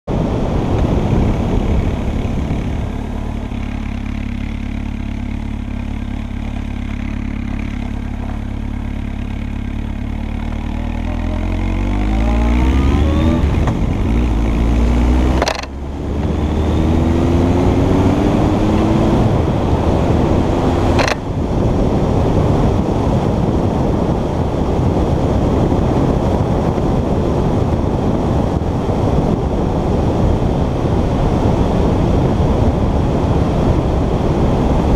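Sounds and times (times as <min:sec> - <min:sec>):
motorcycle engine accelerating: 0:00.1 - 0:34.9
wind rushing over microphone: 0:00.1 - 0:34.9.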